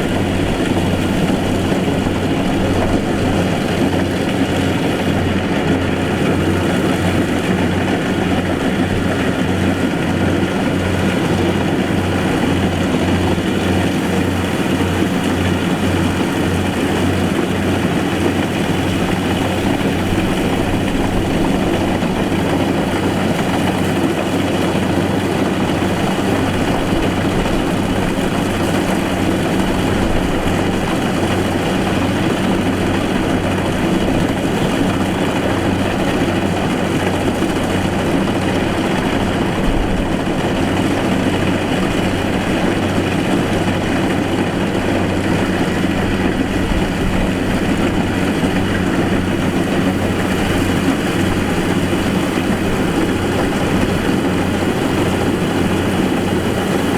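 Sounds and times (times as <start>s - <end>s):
combine harvester diesel engine: 0.0s - 56.9s.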